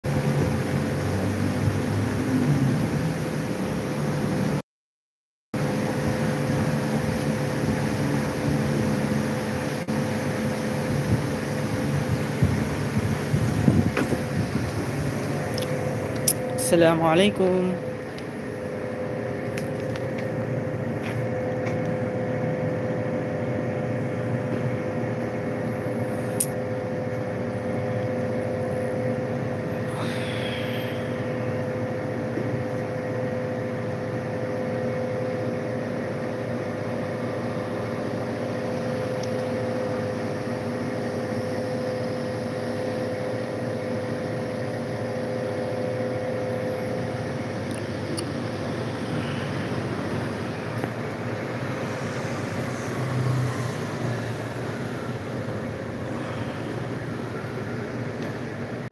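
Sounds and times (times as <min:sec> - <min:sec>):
mechanical hum with tone: 0:00.1 - 0:04.6, 0:05.6 - 0:58.9
rush of street noise: 0:00.1 - 0:04.6, 0:05.6 - 0:58.9.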